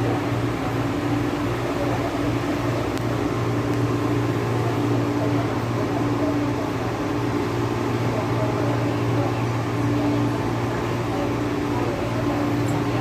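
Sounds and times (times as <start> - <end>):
electric train interior hum: 0.0 - 13.0.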